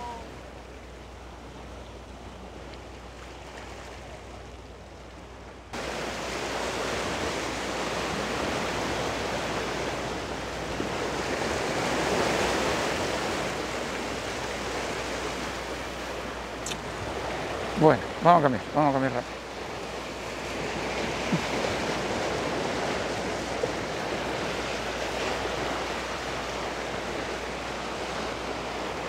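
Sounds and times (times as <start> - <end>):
sea surf on rocks: 0.0 - 29.0.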